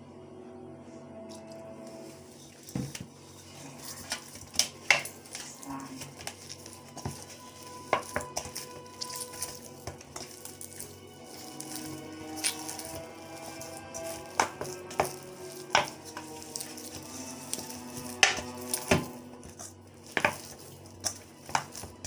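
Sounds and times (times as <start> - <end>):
bowl and utensils clinking: 1.3 - 22.0.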